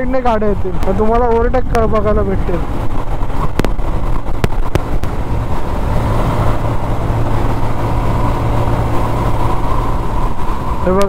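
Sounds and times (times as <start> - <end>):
motorcycle engine humming: 0.0 - 11.0
road noise: 0.0 - 11.0.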